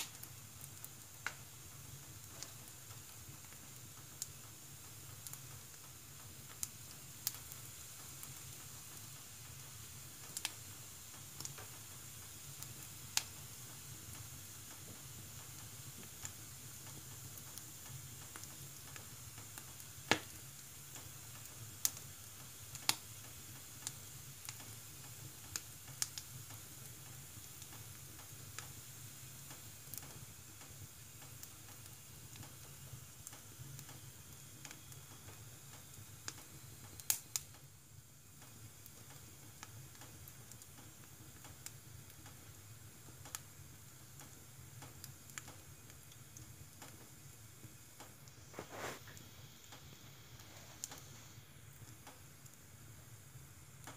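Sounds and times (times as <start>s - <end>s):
faint steady hiss: 0.0s - 53.9s
wood fire crackling and popping: 0.0s - 53.9s.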